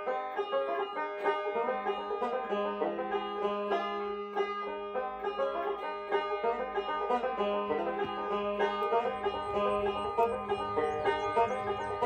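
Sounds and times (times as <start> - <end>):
banjo music: 0.0 - 12.0.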